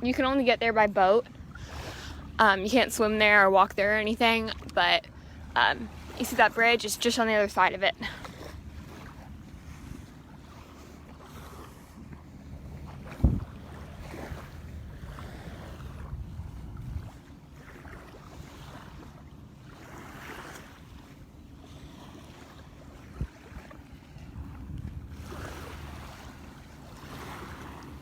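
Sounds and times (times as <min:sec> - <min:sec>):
small waves washing on shore: 0:00.0 - 0:28.0
wind rumble on microphone: 0:00.0 - 0:28.0.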